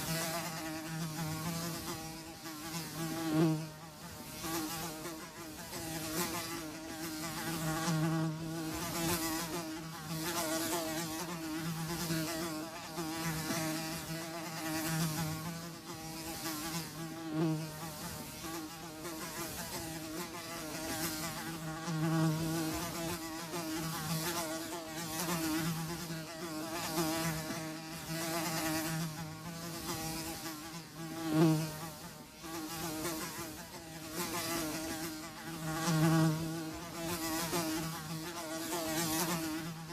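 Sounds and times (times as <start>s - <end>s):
flies buzzing: 0.0s - 39.9s.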